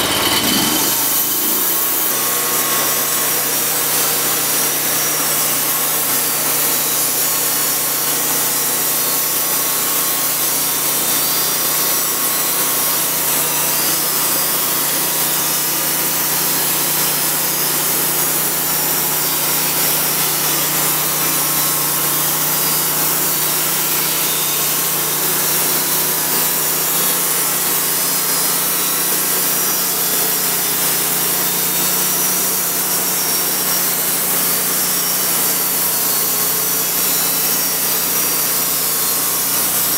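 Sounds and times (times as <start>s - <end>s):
band blade cutting log: 0.0s - 39.9s
sawmill engine running: 0.0s - 39.9s.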